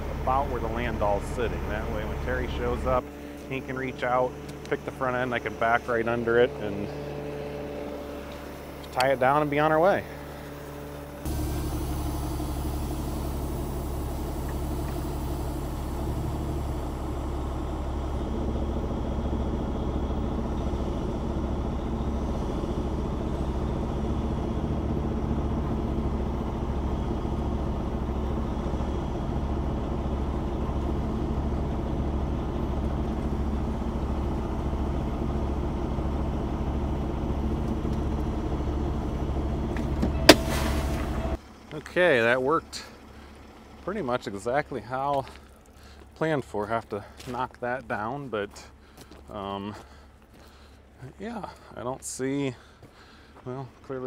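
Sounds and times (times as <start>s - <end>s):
metal chassis dragging on ground: 0.0s - 46.7s
diesel truck engine running: 0.0s - 54.0s.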